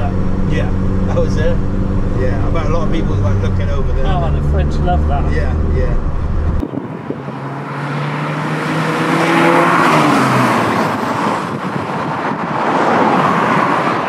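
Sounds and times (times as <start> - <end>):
road and wind rush: 0.0 - 14.0
sports car engine: 0.0 - 14.0.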